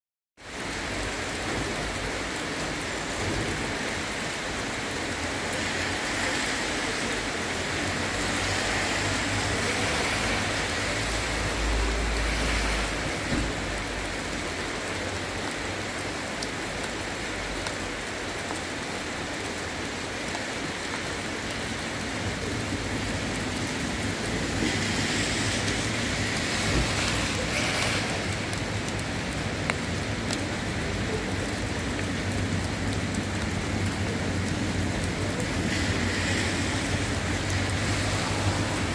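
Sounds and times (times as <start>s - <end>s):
rain falling on a wet street: 0.4s - 38.9s.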